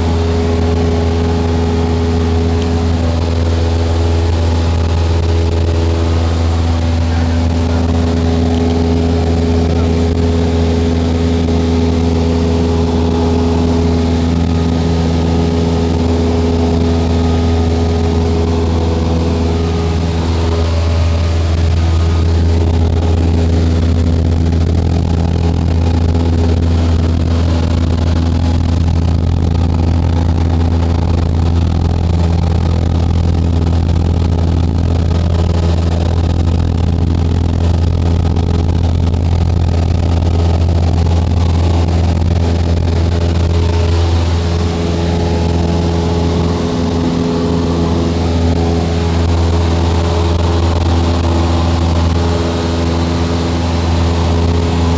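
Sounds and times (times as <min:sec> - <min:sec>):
aircraft engine drone in cabin: 0:00.0 - 0:54.9.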